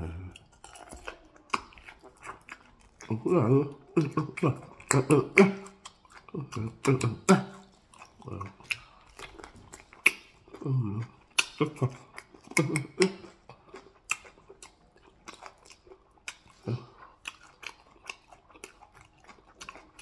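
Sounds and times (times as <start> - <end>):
open-mouthed wet chewing: 0.0 - 20.0.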